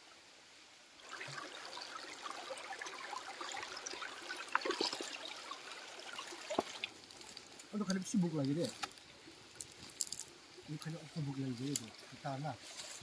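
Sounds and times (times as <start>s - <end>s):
stream water trickling over rocks: 0.0s - 13.0s.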